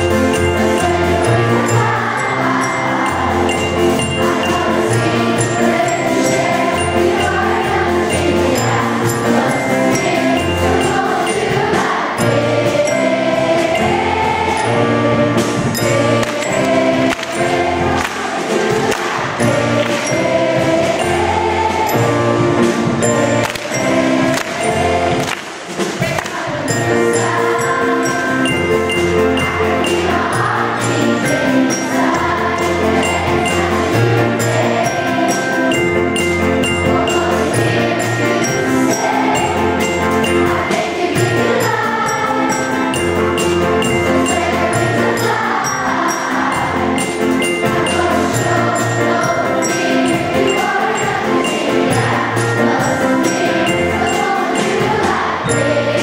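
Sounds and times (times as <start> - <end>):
bright chiming notes: 0.0 - 25.3, 26.6 - 56.0
choir singing upbeat song: 0.0 - 56.0.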